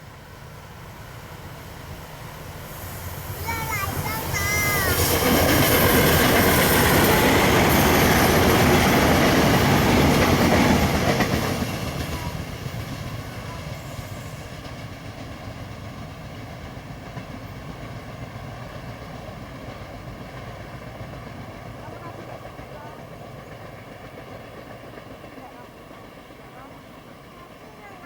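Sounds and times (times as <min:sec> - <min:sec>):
train wheels clattering on track: 0:00.8 - 0:28.0.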